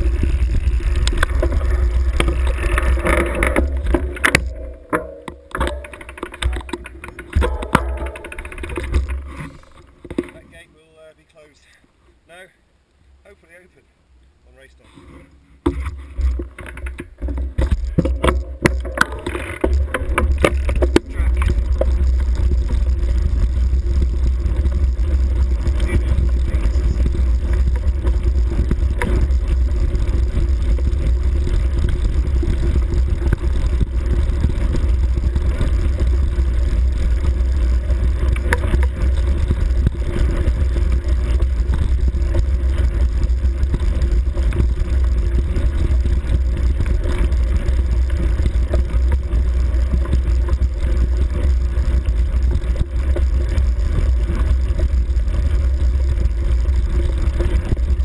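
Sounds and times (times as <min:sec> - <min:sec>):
bike rumbling over bumpy grass: 0:00.0 - 0:11.7, 0:15.0 - 0:58.0.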